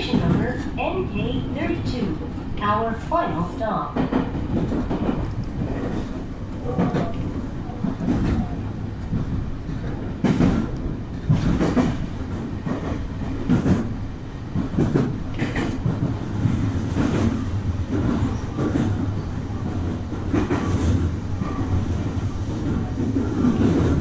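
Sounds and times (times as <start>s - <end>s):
train rumble: 0.0s - 24.0s
wheels clacking on track: 0.0s - 24.0s.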